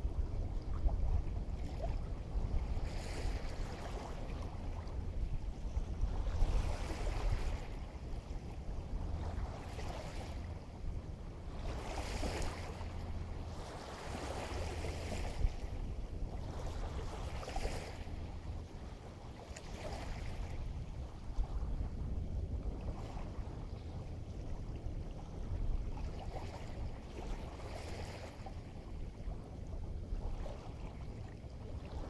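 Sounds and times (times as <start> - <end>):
small waves washing in: 0.0 - 32.0
wind rumble on microphone: 0.0 - 32.0.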